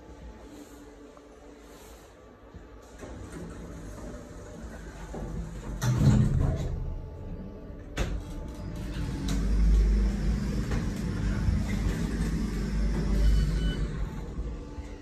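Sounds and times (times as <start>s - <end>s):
elevator car rumbling: 2.7s - 15.0s.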